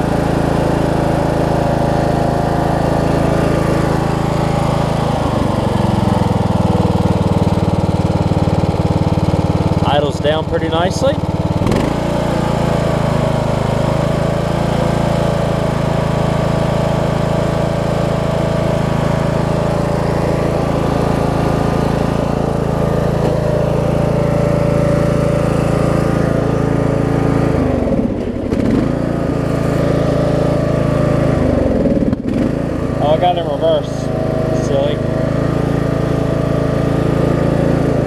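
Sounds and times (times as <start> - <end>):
riding mower engine running: 0.0 - 38.0.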